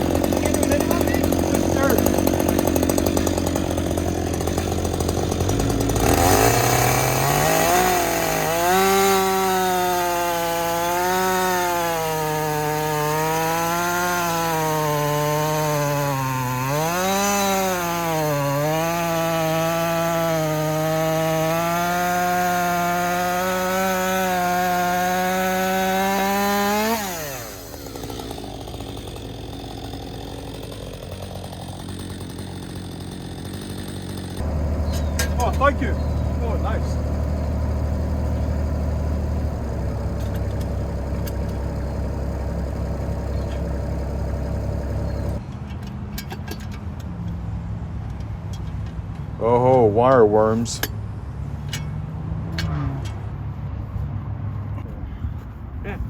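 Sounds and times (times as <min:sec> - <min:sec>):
chainsaw cutting wood: 0:00.0 - 0:45.5.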